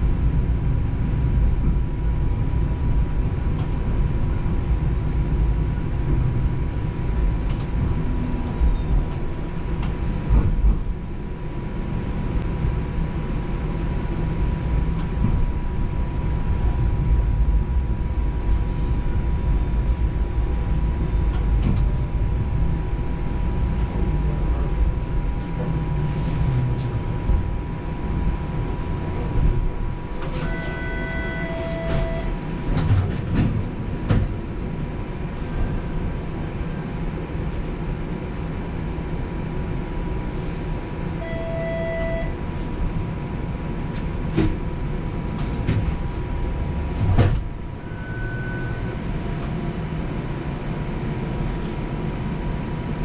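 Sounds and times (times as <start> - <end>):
streetcar rumbling on rails: 0.0 - 53.0.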